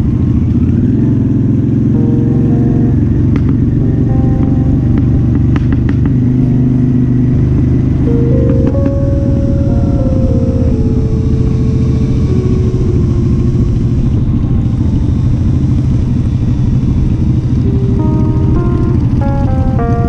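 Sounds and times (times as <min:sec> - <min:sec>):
motorcycle engine cruising: 0:00.0 - 0:20.0
soft background music: 0:01.8 - 0:20.0.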